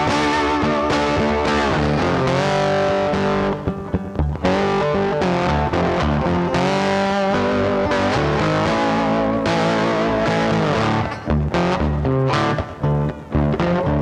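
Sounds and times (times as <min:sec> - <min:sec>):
rock music with distorted guitar: 0:00.0 - 0:14.0.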